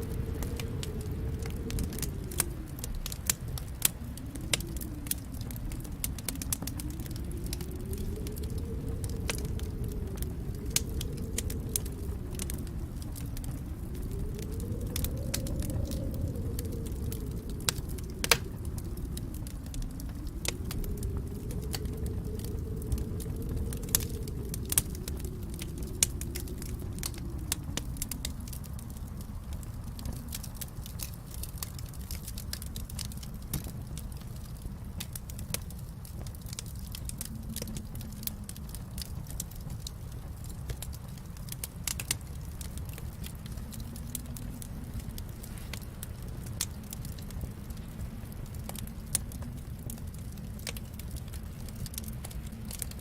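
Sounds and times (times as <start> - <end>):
fire popping: 0.0 - 53.0
fireplace fire crackling: 0.0 - 53.0
low rush of flame: 0.0 - 53.0.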